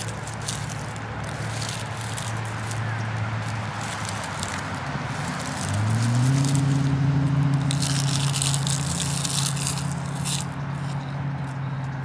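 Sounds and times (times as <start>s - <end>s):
crunchy chewing of fried fish: 0.0s - 7.0s, 7.6s - 11.0s.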